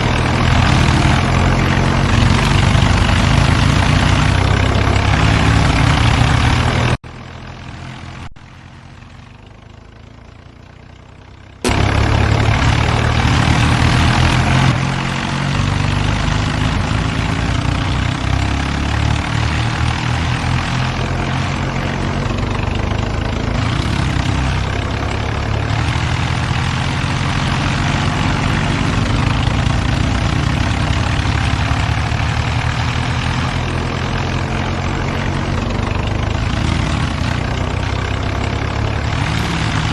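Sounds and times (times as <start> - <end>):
tractor engines rumbling: 0.0 - 39.9.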